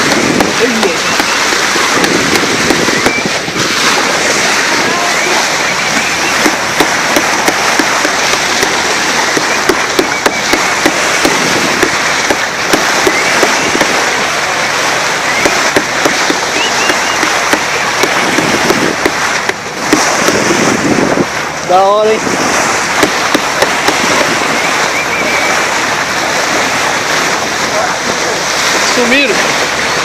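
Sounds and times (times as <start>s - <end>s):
sharp crackles and splashes: 0.0s - 30.0s
wind and water spray rushing: 0.0s - 30.0s.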